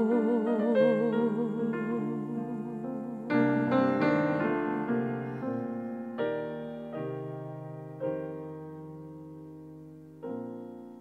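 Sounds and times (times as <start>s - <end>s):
piano playing slow chords: 0.0s - 11.0s.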